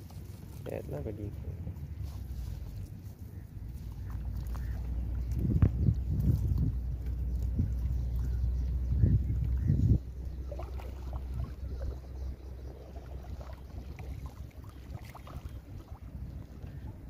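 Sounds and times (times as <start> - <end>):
water splashing and lapping: 0.0 - 17.0
wind rumble on microphone: 0.0 - 17.0.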